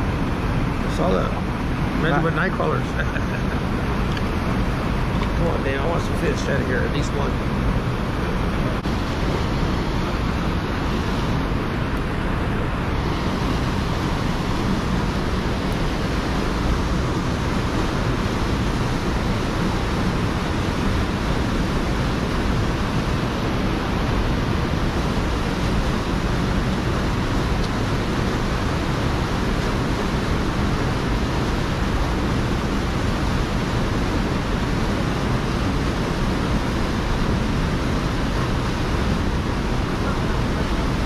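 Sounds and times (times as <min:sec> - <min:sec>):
river rushing through gorge: 0:07.2 - 0:41.0.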